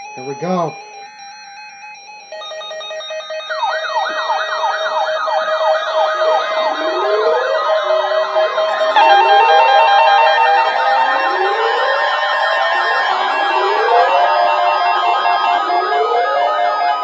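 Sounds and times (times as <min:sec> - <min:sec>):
steady beeping alarm tones: 0:00.0 - 0:17.0
siren-like sweeps: 0:02.4 - 0:17.0.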